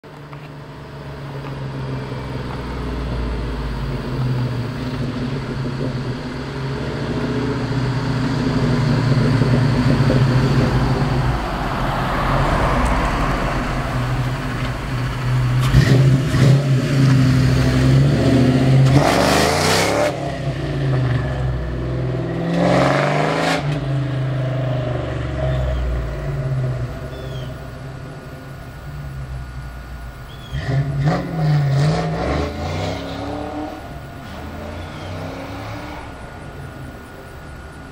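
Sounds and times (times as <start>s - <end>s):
car engine under hard driving: 0.0s - 37.9s.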